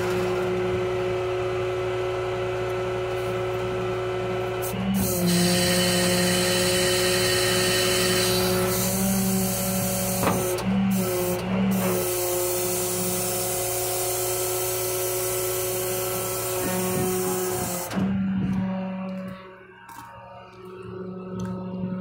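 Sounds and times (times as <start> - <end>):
diesel engine running: 0.0 - 22.0
hydraulic whine: 0.0 - 22.0.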